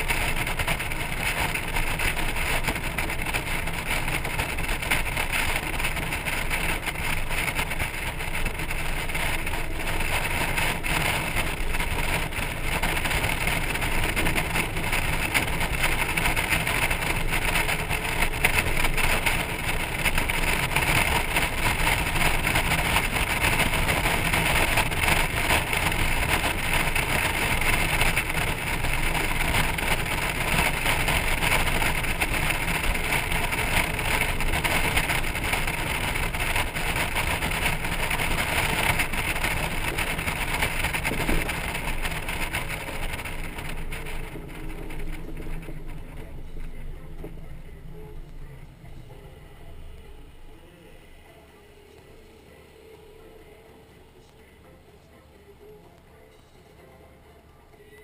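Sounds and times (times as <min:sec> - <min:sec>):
wind and road noise: 0:00.0 - 0:51.3.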